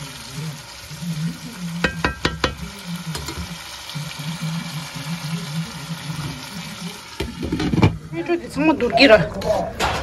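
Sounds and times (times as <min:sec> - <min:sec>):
food sizzling in a pot: 0:00.0 - 0:09.3.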